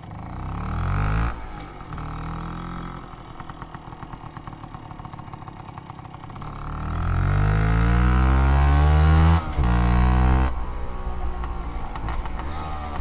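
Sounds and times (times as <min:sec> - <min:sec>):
scooter engine idling and revving: 0:00.0 - 0:13.0.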